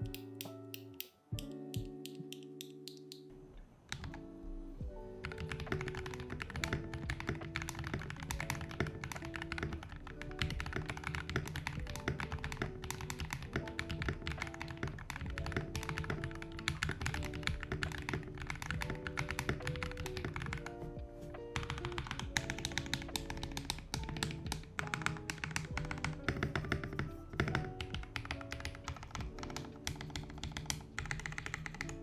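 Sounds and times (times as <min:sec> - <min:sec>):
background music: 0:00.0 - 0:32.0
mechanical keyboard typing: 0:03.9 - 0:04.2, 0:05.2 - 0:20.8, 0:21.6 - 0:32.0.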